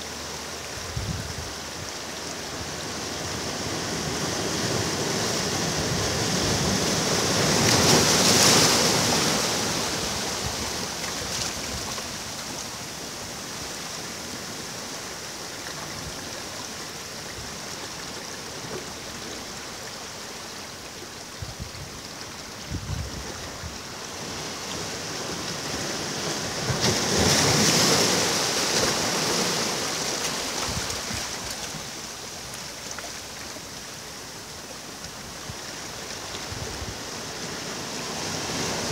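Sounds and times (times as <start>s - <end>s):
ocean waves crashing on beach: 0.0s - 38.9s.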